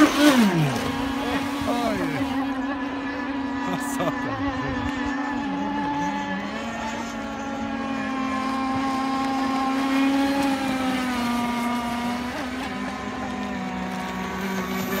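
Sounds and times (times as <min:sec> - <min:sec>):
model speedboat motors droning: 0:00.0 - 0:15.0.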